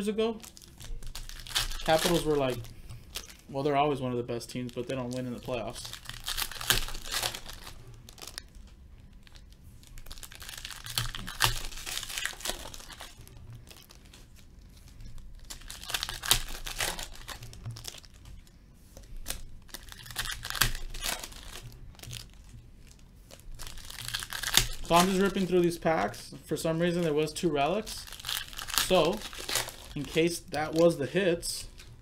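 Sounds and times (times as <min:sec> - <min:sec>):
card pack wrappers crinkling: 0:00.0 - 0:32.0.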